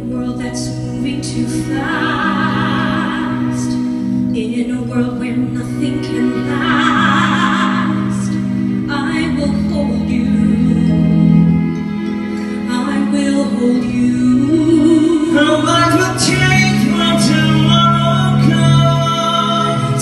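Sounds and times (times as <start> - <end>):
high voice singing with vibrato: 0.0 - 11.4, 12.5 - 20.0.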